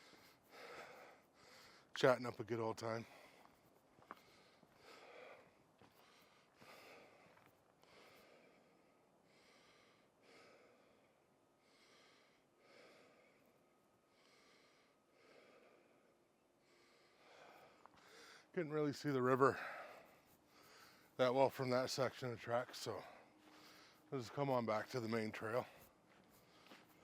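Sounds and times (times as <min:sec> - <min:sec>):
soft breathing close to microphone: 0:00.0 - 0:01.9, 0:03.0 - 0:18.5, 0:19.5 - 0:21.2, 0:22.9 - 0:24.1, 0:25.6 - 0:27.0.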